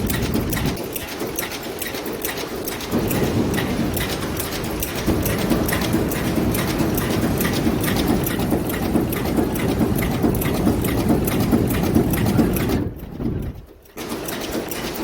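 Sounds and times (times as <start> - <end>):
dense mechanical clatter: 0.0 - 15.0
forging machine knocking: 0.0 - 15.0.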